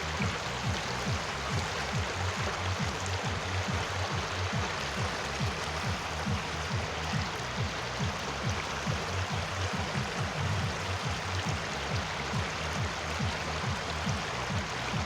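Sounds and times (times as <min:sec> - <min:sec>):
stream water rushing: 0:00.0 - 0:15.0
water gurgling: 0:00.0 - 0:15.0.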